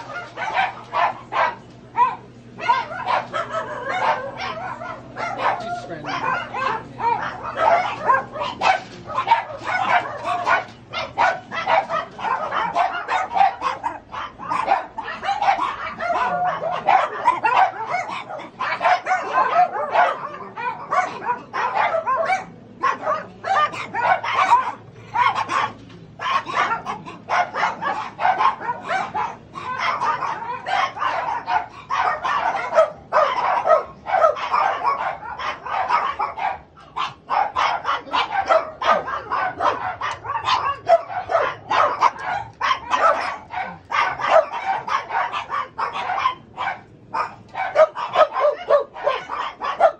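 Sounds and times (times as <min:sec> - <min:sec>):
dogs barking and yipping: 0:00.0 - 0:49.9.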